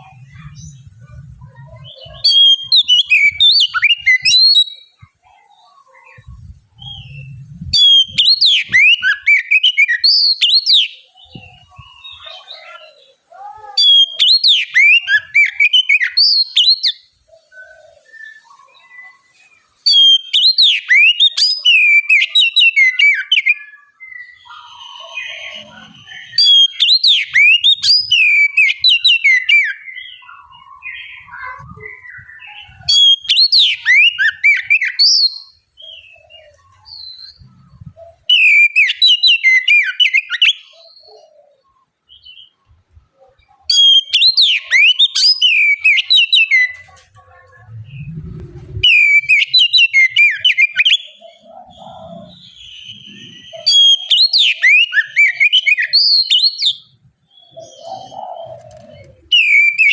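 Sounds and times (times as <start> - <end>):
soft bird calls: 0.0 - 59.9
bird singing whistled notes: 1.7 - 5.0, 6.0 - 12.9, 13.8 - 42.6, 43.7 - 46.8, 47.8 - 59.9.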